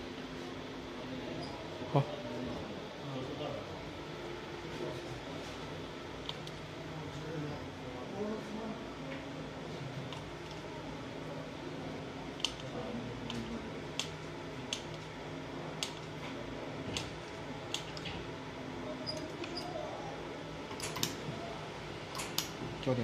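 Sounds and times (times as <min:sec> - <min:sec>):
cooling fans humming: 0:00.0 - 0:23.0.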